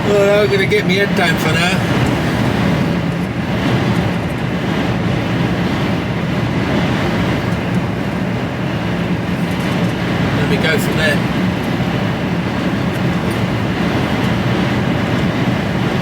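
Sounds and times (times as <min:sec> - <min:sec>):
lorry engine hum: 0:00.0 - 0:16.0
road and tyre noise: 0:00.0 - 0:16.0.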